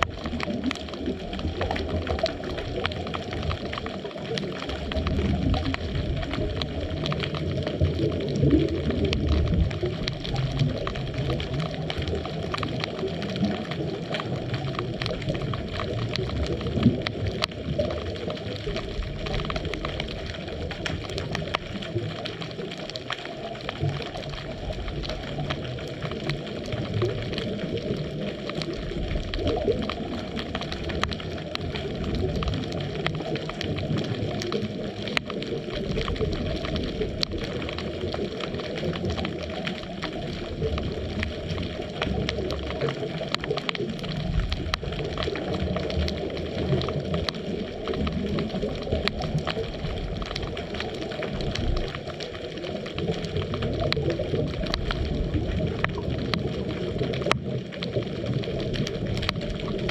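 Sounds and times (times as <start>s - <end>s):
fine underwater crackle of clicks: 0.0s - 59.9s
low uneven underwater rumble: 0.0s - 59.9s.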